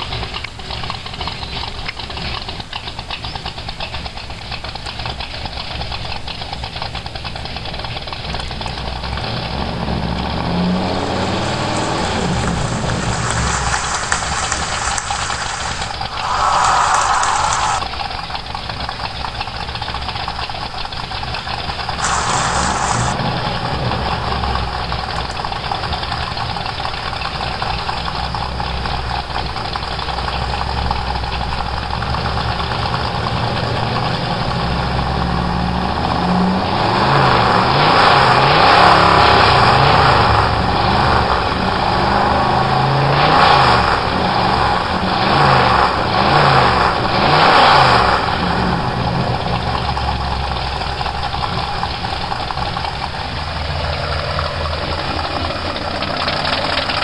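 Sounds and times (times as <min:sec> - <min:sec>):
pickup truck engine idling and revving: 0:00.0 - 0:57.0.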